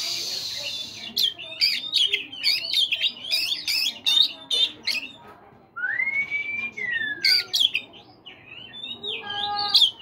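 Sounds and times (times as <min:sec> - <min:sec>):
bird singing whistled notes: 0:00.0 - 0:05.2, 0:05.8 - 0:10.0.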